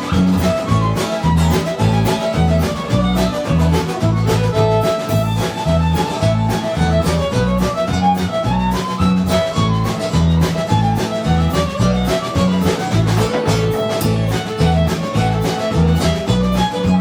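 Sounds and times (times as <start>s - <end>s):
live bluegrass band playing: 0.0s - 17.0s.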